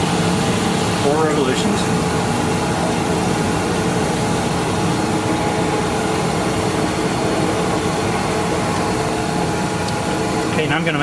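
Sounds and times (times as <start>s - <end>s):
metal lathe humming with faint whine: 0.0s - 11.0s.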